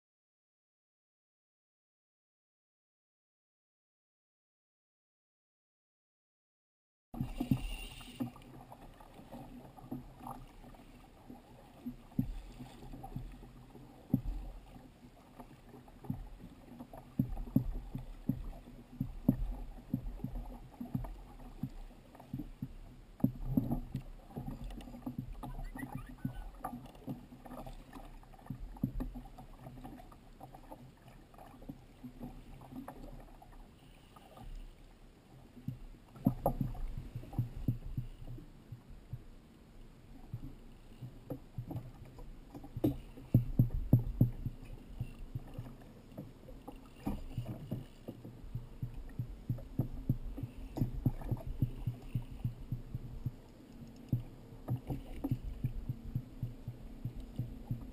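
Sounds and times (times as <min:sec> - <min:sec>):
waves slapping plastic hull: 0:07.2 - 0:39.4, 0:40.1 - 0:57.9
rumble of moving water: 0:07.2 - 0:57.9.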